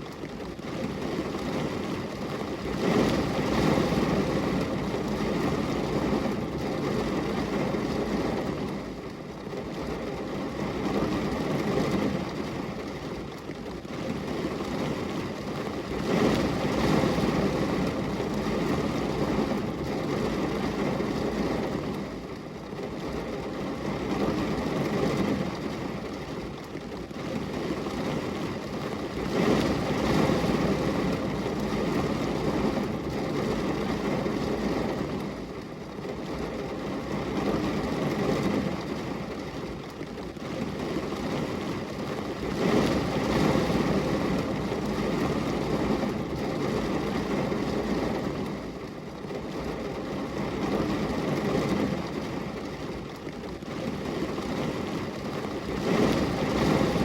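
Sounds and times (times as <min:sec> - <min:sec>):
heavy rain on window glass: 0:00.0 - 0:57.0.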